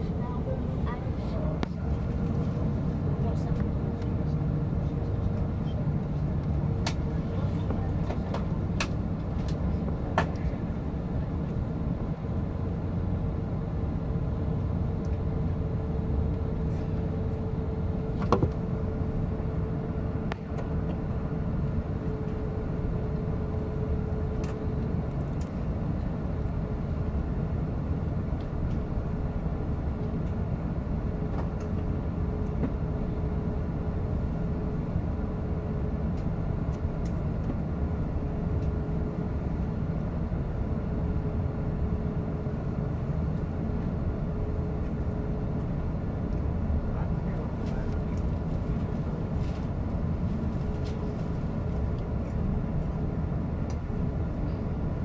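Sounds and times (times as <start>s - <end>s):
aircraft engines rumbling: 0.0s - 55.0s.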